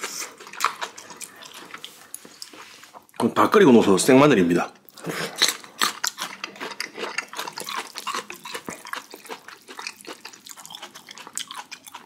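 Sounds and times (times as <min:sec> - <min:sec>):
wet chewing of garlic: 0:00.0 - 0:03.2, 0:04.9 - 0:12.0.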